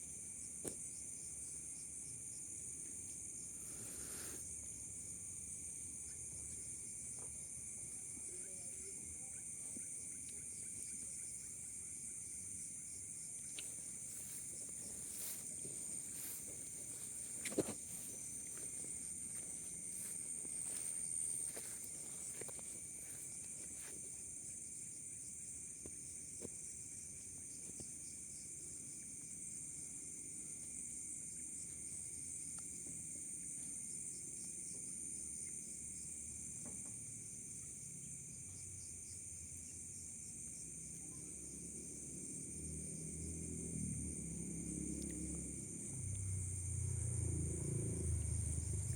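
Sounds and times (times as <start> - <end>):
insects chirring: 0.0 - 48.9.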